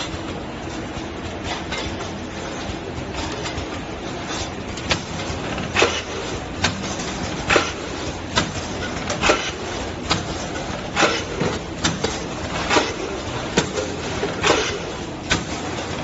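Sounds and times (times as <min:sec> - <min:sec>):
can seaming machine running: 0:00.0 - 0:16.0.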